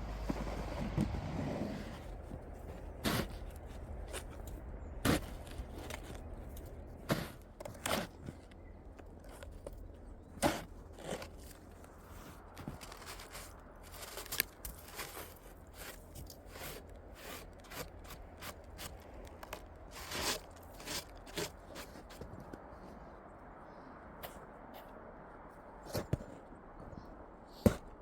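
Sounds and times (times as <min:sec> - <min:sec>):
crunching and scraping in wet snow: 0:00.0 - 0:28.0.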